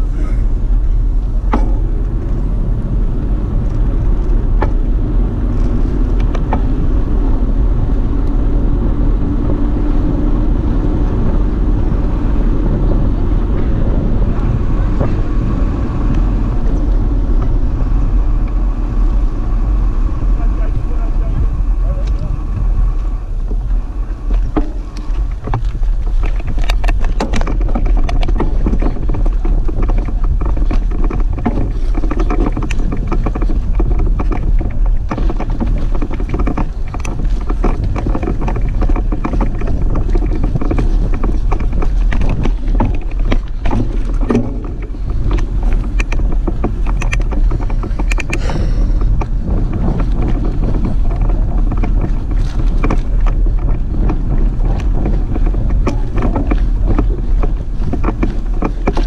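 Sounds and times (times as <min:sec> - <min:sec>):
bike rattling and knocking: 0:00.0 - 0:59.0
wind and rolling tyres rumble: 0:00.0 - 0:59.0.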